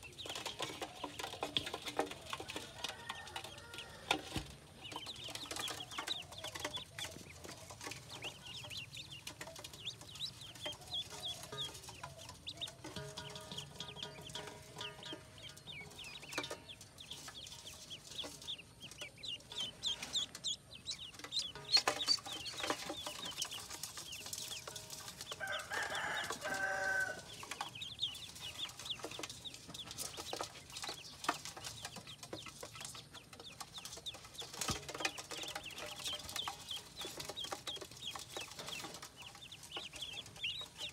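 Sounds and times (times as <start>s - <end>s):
ducklings peeping: 0.0s - 40.9s.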